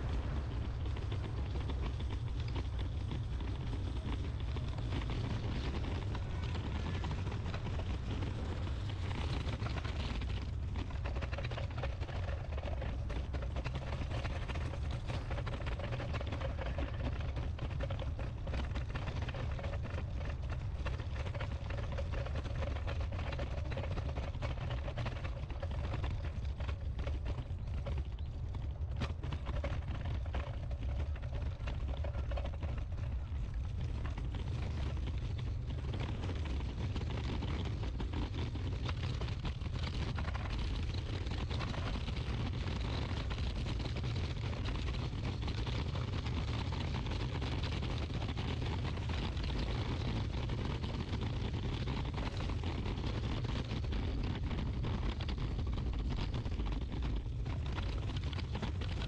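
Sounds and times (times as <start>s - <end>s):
faint steady hum: 0.0s - 59.0s
steady low rumble: 0.0s - 59.0s.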